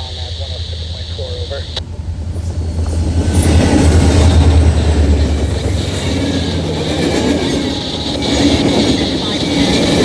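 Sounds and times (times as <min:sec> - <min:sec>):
diesel locomotive engine drone: 0:00.0 - 0:10.0
train wheels on rails: 0:01.8 - 0:10.0.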